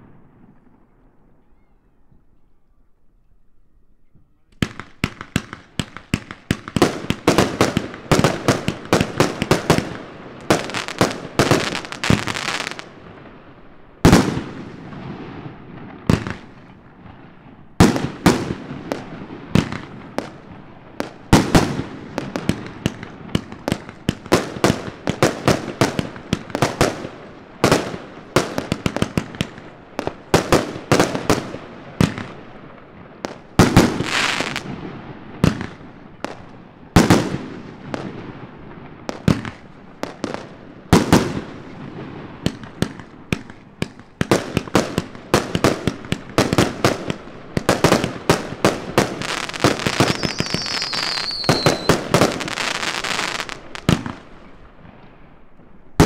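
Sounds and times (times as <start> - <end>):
firework crackle: 4.6 - 56.0.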